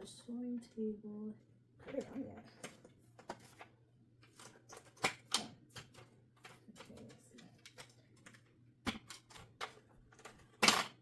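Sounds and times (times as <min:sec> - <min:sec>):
plastic table clacking: 0:01.8 - 0:11.0.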